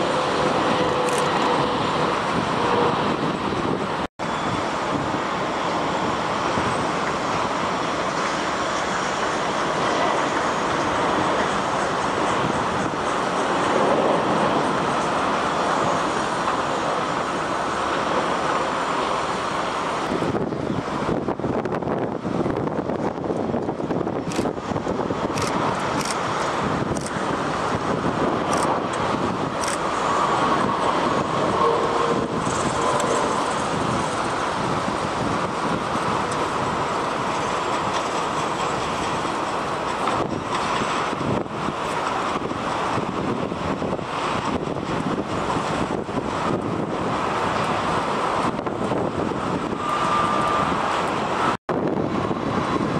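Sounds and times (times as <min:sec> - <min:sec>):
jet engines rushing: 0:00.0 - 0:52.9.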